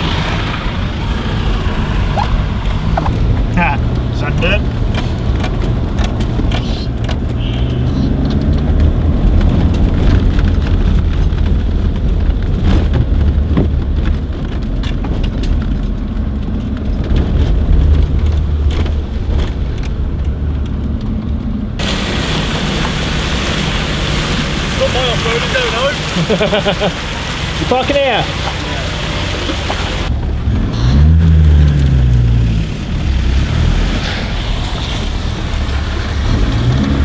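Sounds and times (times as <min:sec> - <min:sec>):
diesel engine low rumble: 0:00.0 - 0:37.0
tyres crackling on loose stone: 0:00.1 - 0:37.0.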